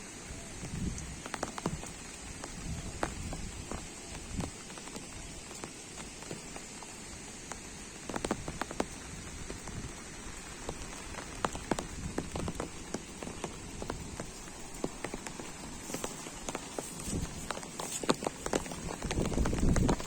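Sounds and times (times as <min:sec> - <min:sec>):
rain drop taps: 0:00.0 - 0:20.0
rain hiss: 0:00.0 - 0:20.0.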